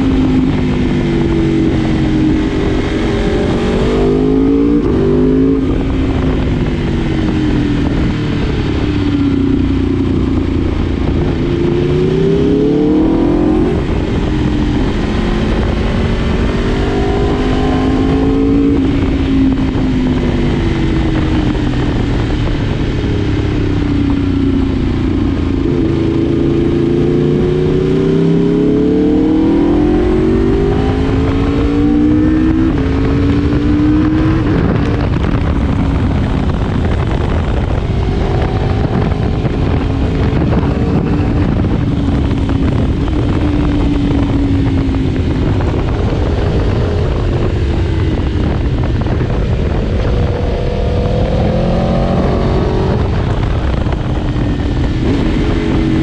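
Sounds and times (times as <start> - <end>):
motorcycle engine accelerating: 0.0 - 56.0
steady rush of noise: 0.0 - 56.0.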